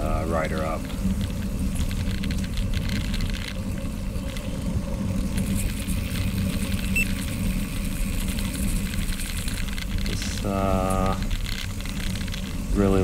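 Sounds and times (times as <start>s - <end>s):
bicycle tyres rolling on gravel: 0.0s - 13.0s.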